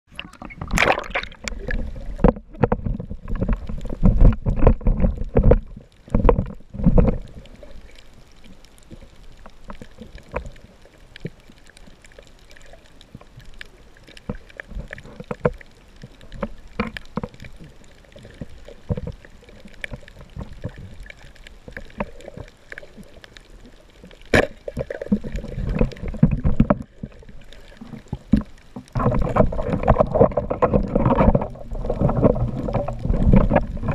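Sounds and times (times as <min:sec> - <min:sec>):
muffled underwater noise: 0:00.1 - 0:33.9
sharp underwater clicks: 0:00.1 - 0:33.9
water sloshing and splashing: 0:00.1 - 0:33.9.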